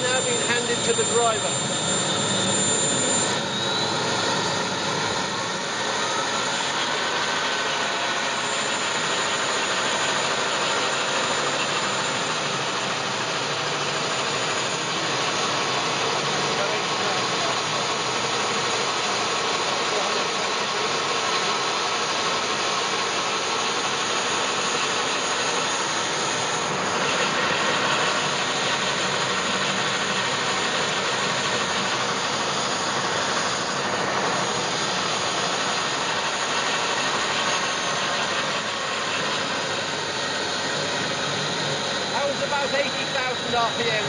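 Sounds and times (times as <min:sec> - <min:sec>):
gas turbine running: 0:00.0 - 0:44.0.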